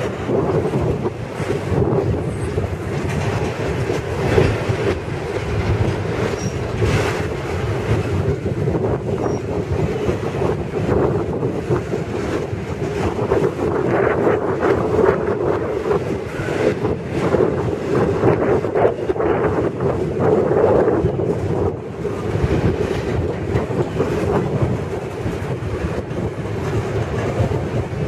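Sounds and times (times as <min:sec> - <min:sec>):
wheels clattering on rail: 0:00.0 - 0:28.0.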